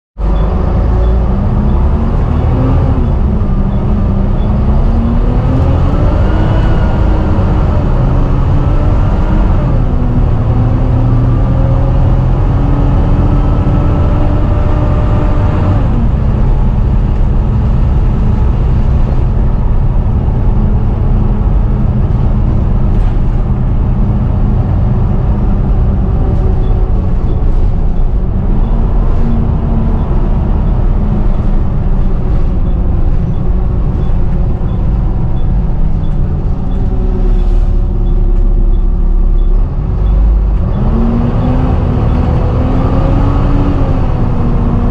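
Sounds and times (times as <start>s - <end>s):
diesel bus engine running: 0.2s - 44.9s
high whine over engine: 0.2s - 44.9s.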